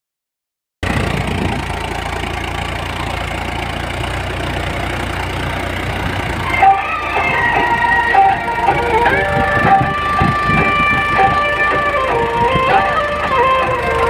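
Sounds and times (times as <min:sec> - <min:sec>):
tractor diesel engine idling: 0:00.8 - 0:14.0.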